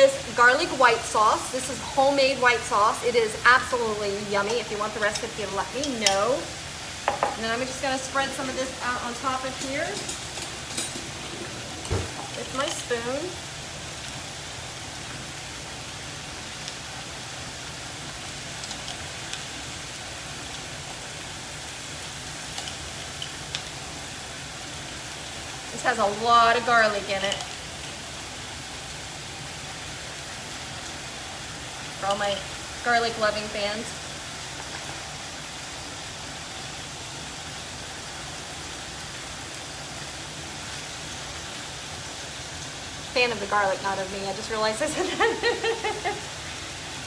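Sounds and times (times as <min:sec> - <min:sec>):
chicken sizzling in a grill pan: 0:00.0 - 0:47.0.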